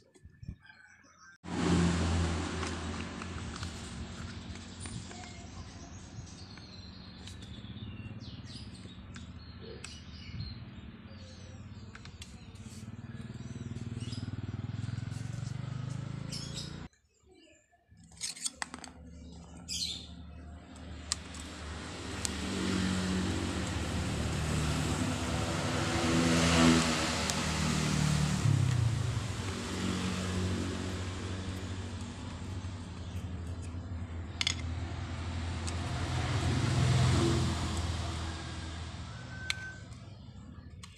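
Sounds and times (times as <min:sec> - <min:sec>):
low hum of traffic: 0:00.0 - 0:17.0, 0:17.9 - 0:40.9
vehicle engine: 0:01.4 - 0:16.9, 0:18.3 - 0:40.9
small birds chirping: 0:03.6 - 0:26.1, 0:27.0 - 0:38.0.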